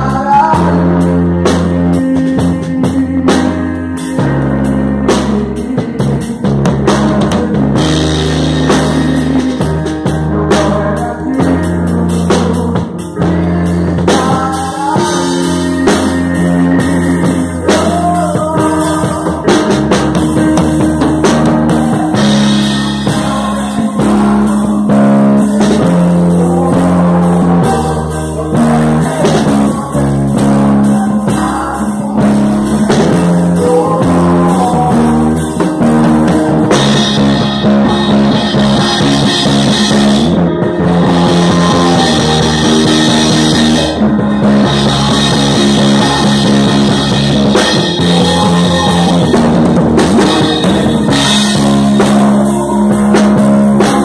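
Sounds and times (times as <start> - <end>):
bass notes: 0.0 - 54.0
drum kit playing: 0.0 - 54.0
person singing: 0.0 - 54.0.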